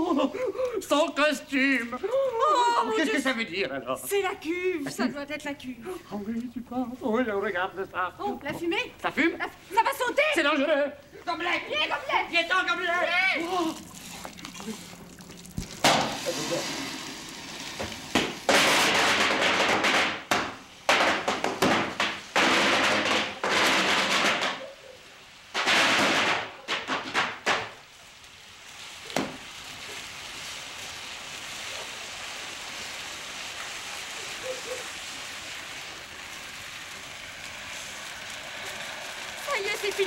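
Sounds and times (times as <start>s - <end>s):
pyrotechnic sparks hissing and crackling: 0.0s - 40.0s.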